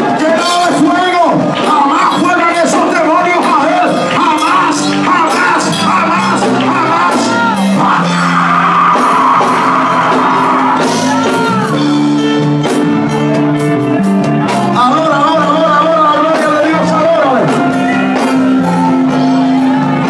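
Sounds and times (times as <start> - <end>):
man singing and shouting: 0.0 - 12.4, 14.6 - 20.0
live worship music: 0.0 - 20.0.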